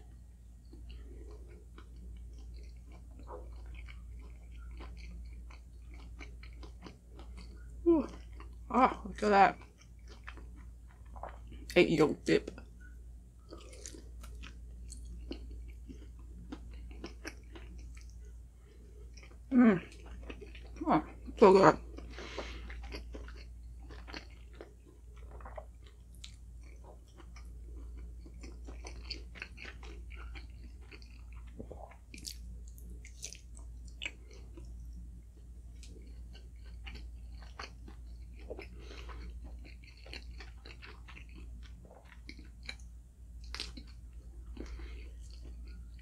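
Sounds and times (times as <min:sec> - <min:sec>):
person chewing food: 0:00.6 - 0:08.7, 0:09.6 - 0:11.7, 0:12.5 - 0:46.0.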